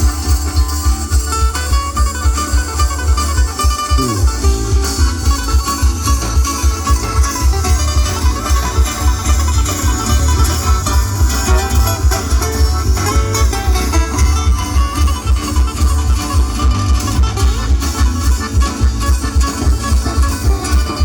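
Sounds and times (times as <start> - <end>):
plucked string instruments: 0.0 - 21.0
strong steady bass beat: 0.0 - 21.0.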